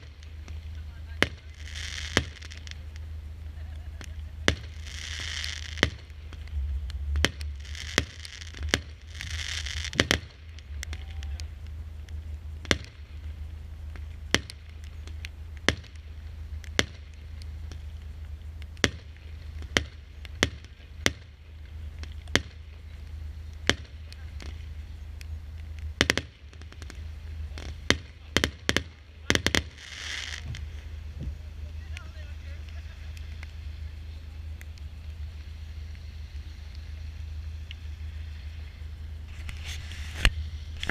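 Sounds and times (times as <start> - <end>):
firework shells bursting: 0.0 - 40.9.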